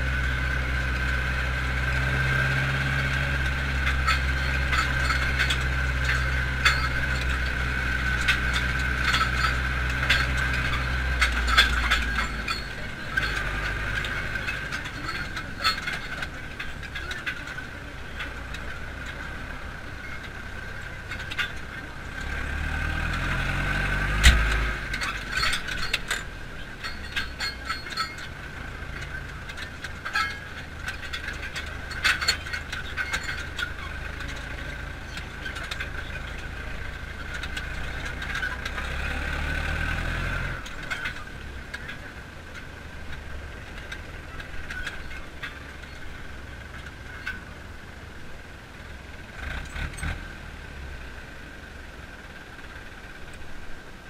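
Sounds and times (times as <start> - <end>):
cab fittings rattling: 0.0 - 54.0
tractor engine running: 0.0 - 54.0.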